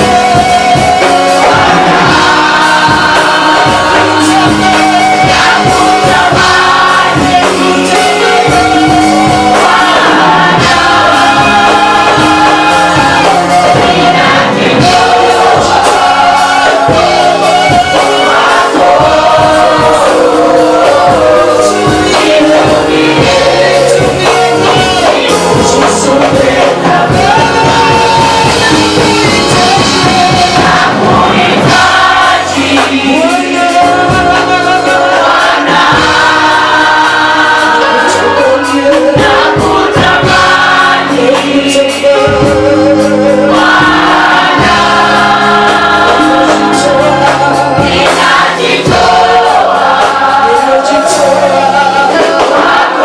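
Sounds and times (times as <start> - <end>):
group singing: 0.0 - 53.0
musical accompaniment: 0.0 - 53.0.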